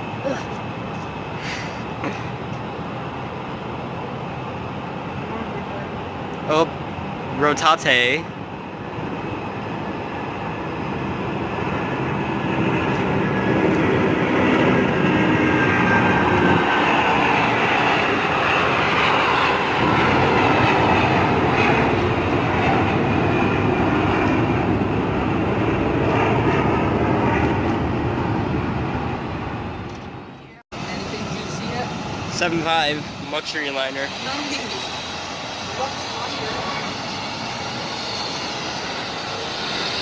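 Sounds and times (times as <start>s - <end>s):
jet engines roaring: 0.0s - 40.0s
thin jet whine: 0.0s - 40.0s.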